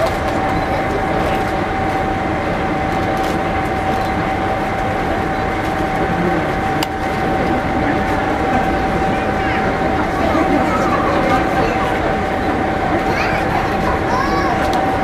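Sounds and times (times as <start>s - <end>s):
crowd murmur: 0.0s - 15.0s
diesel railcar idling: 0.0s - 15.0s.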